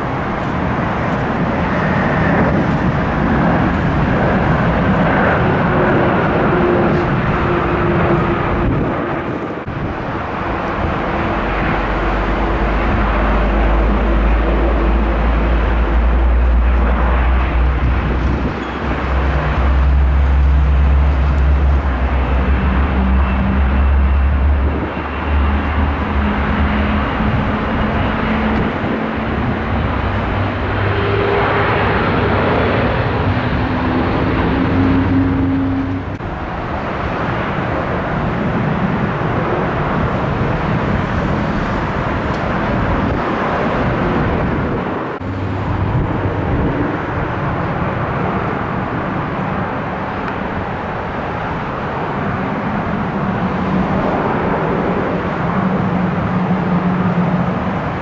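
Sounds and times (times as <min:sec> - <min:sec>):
ground vehicle noise: 0:00.0 - 0:58.0
jet noise: 0:00.0 - 0:58.0
low engine hum: 0:00.0 - 0:58.0.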